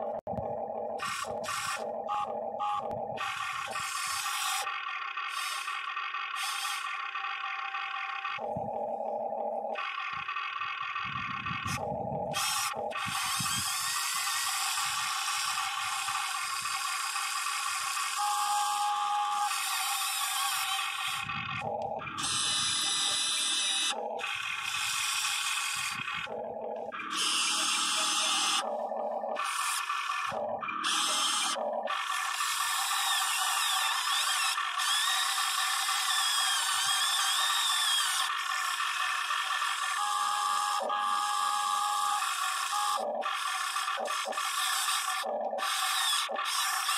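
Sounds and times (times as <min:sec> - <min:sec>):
electric motors whining: 0:00.0 - 0:46.9.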